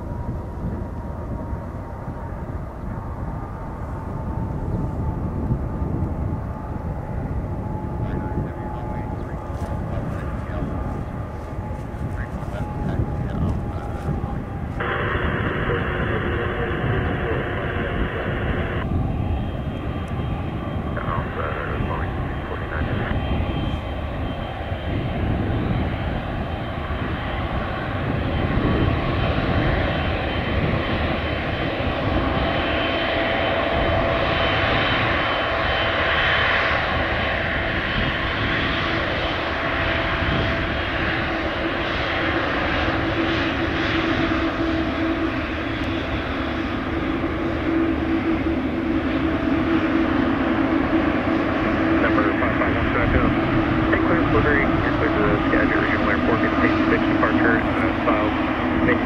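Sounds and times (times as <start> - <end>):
jet engine rumble and whine: 0.0 - 59.0.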